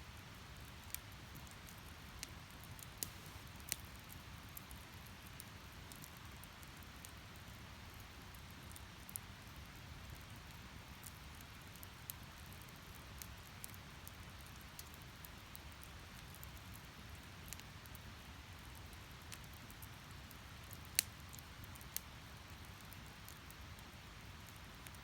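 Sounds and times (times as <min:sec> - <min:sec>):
low rumble of fire: 0:00.0 - 0:25.0
firewood crackling: 0:00.4 - 0:25.0.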